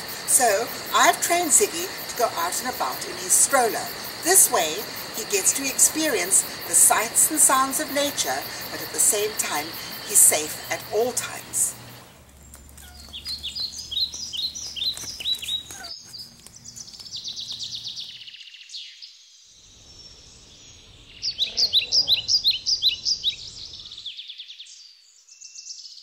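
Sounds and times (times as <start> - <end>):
birds chirping and trilling: 0.0 - 26.0.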